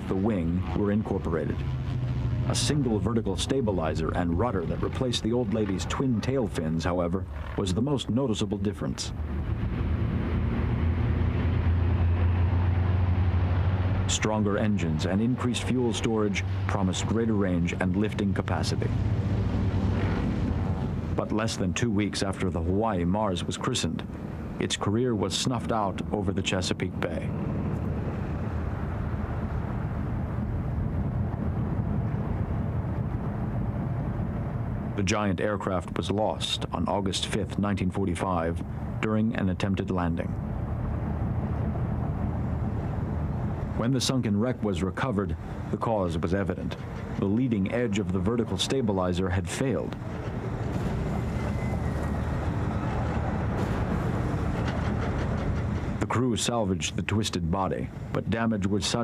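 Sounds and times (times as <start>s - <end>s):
low mechanical rumble: 0.0s - 59.0s
propeller aircraft engines droning: 0.0s - 59.0s.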